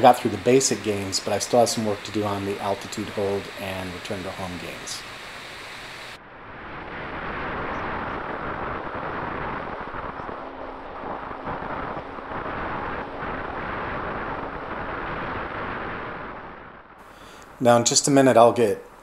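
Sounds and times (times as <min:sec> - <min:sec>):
air rushing past camera: 0:00.0 - 0:17.7
faint steady motor hum: 0:00.0 - 0:19.0.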